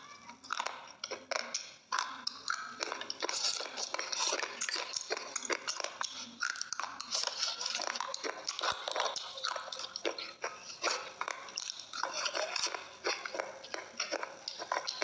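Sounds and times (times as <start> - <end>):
wet chewing mouth smacks: 0.4 - 15.0.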